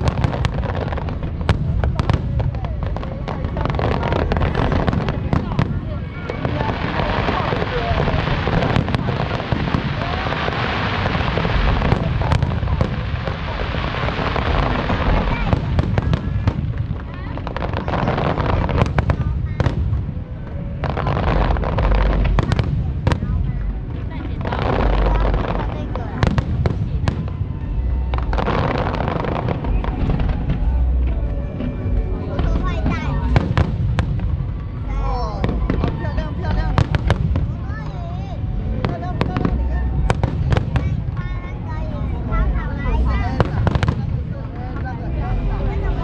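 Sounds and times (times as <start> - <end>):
deep rumble: 0.0 - 46.0
fireworks bangs: 0.0 - 46.0
fireworks crackling: 0.0 - 46.0.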